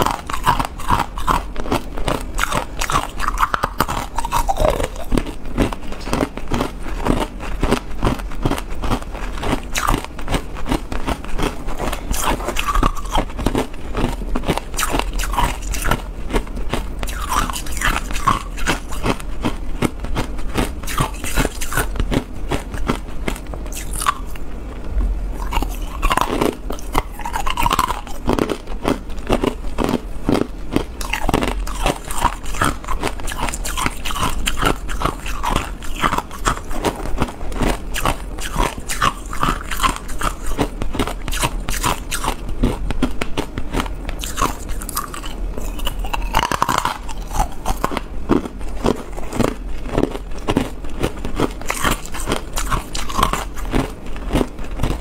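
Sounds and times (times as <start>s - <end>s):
ice being chewed: 0.0s - 24.5s, 25.3s - 55.0s.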